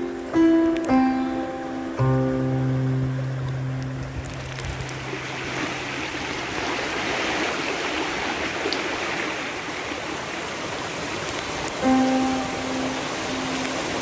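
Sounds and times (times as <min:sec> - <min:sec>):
heavy rain: 0:00.0 - 0:14.0
stream rushing over rocks: 0:00.0 - 0:14.0.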